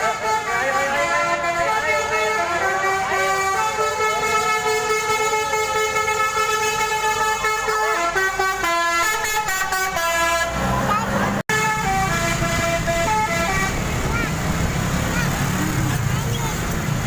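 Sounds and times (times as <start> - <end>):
multi-tone bus horn melody: 0.0 - 15.8.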